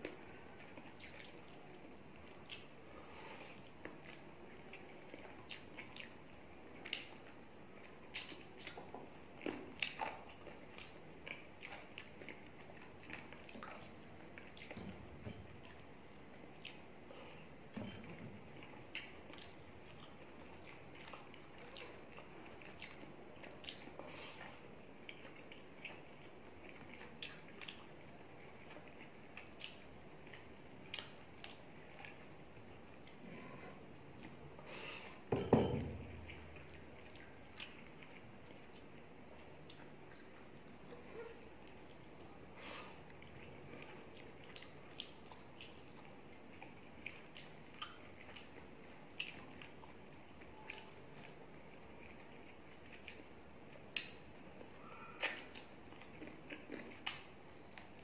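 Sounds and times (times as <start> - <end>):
wet squishing of food: 0.0 - 35.3, 35.9 - 58.0.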